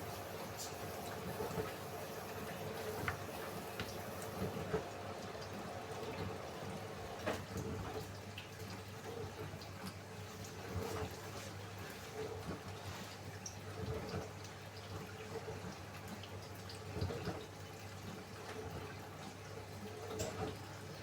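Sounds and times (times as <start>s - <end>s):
washing machine low hum: 0.0s - 21.0s
water trickling and dripping: 0.0s - 21.0s.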